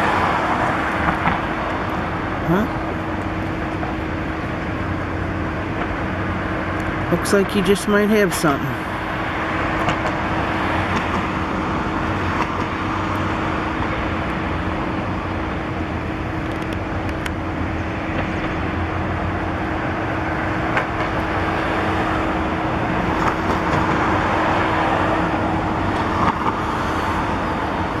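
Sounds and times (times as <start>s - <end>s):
city traffic: 0.0s - 28.0s.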